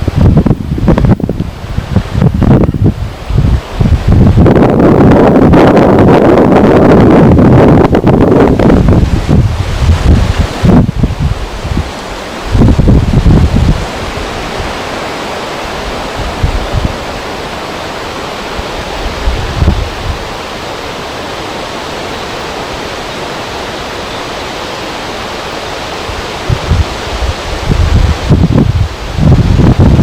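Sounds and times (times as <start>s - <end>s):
wind buffeting microphone: 0.0s - 30.0s
wind rushing: 0.0s - 30.0s.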